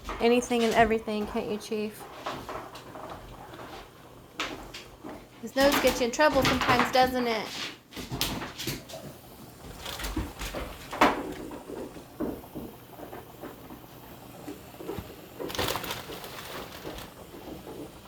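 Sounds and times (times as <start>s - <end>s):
kitchen handling noises: 0.0s - 18.0s.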